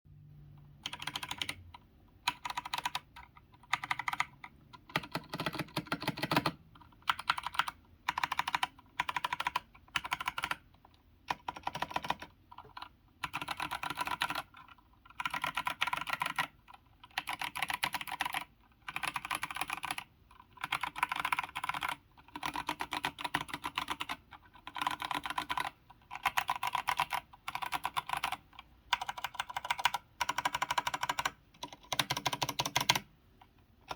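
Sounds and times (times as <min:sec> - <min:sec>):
mechanical keyboard typing: 0:00.6 - 0:33.9.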